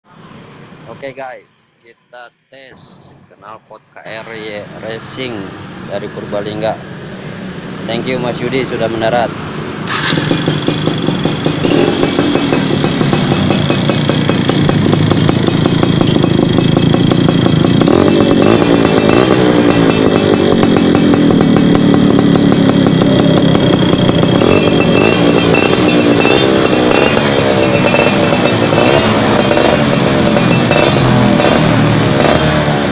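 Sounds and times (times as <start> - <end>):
two-stroke motorcycle engine revving: 4.2 - 32.9.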